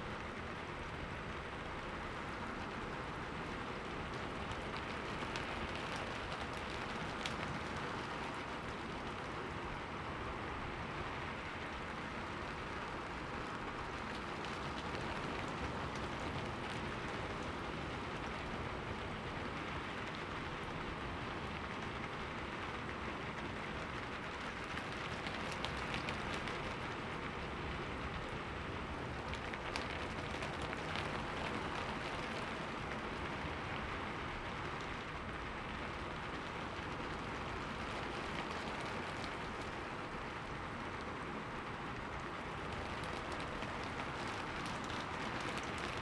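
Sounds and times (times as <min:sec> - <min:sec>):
rain on a window: 0:00.0 - 0:46.0.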